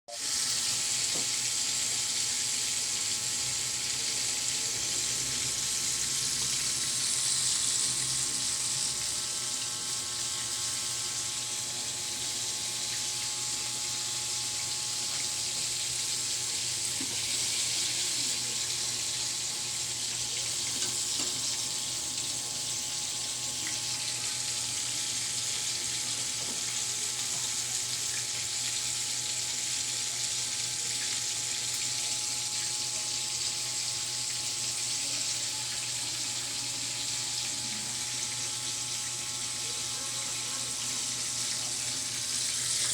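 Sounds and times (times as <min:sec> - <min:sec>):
chicken sizzling in hot oil: 0:00.1 - 0:42.9.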